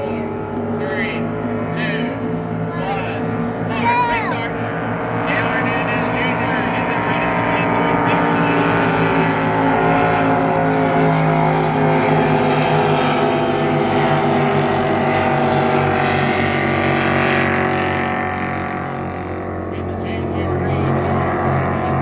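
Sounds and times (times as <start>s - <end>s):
racing powerboat engines: 0.0s - 22.0s.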